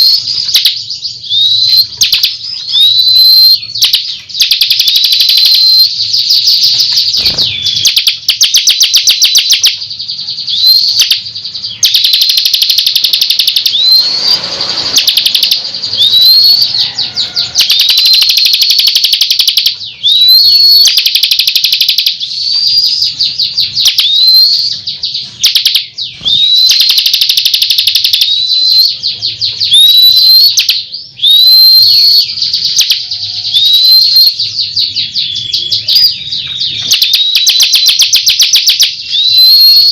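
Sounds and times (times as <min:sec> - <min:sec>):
bird singing with ticking trills: 0:00.0 - 0:39.9.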